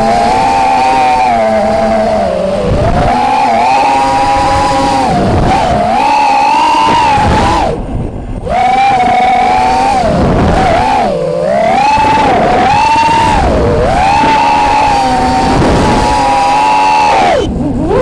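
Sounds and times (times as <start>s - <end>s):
drone motors whining: 0.0s - 18.0s
rushing air: 0.0s - 18.0s.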